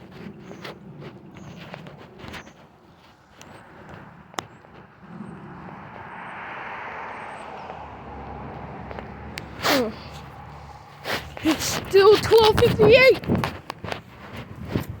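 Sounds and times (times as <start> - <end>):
vehicle passing with road noise: 0.0 - 15.0.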